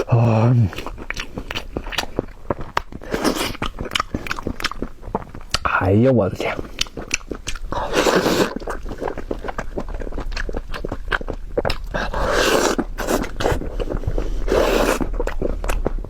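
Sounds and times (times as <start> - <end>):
person chewing and smacking: 0.0 - 16.0.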